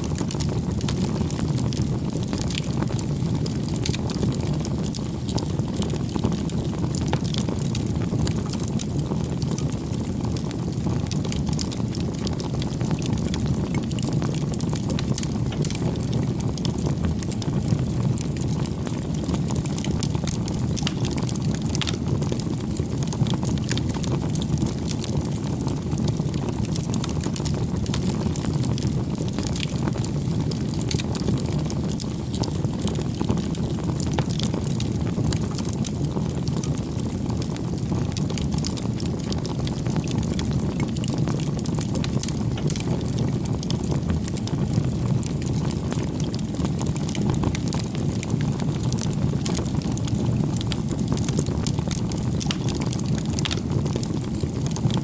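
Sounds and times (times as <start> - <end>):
burning wood crackling and popping: 0.0 - 55.0
low rush of flame: 0.0 - 55.0.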